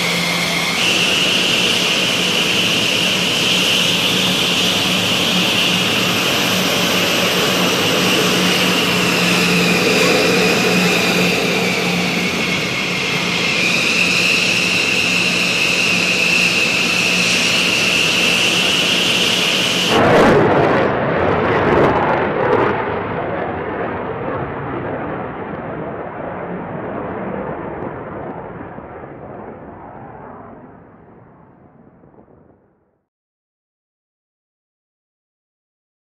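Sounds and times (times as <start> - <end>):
jet engines whining: 0.0 - 31.0
distant jet flying: 0.0 - 32.6.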